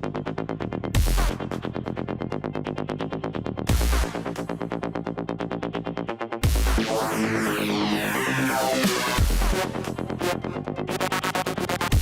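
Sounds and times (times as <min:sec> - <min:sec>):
drum and bass music: 0:00.0 - 0:12.0.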